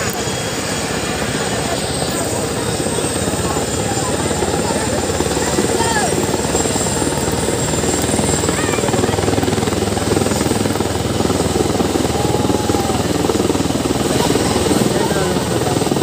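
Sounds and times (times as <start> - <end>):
helicopter rotor beat: 0.0 - 16.0
helicopter turbine whine: 0.0 - 16.0.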